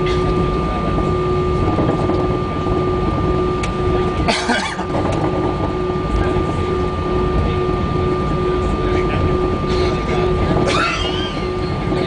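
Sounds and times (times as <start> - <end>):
jet engines whining: 0.0 - 12.0
low rumble: 0.0 - 12.0
on-off tone: 0.0 - 12.0.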